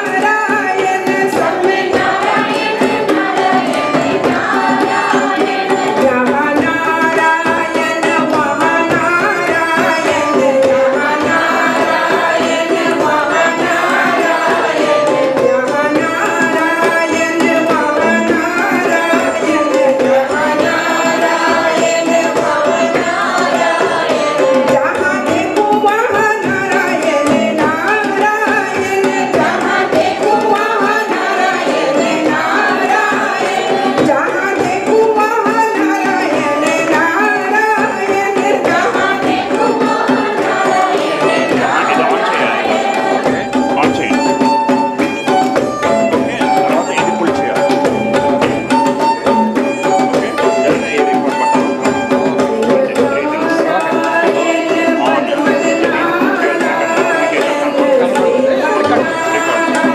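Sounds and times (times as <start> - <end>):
women singing together: 0.0 - 46.0, 51.5 - 59.9
hand drum: 0.0 - 59.9
tabla: 0.0 - 59.9.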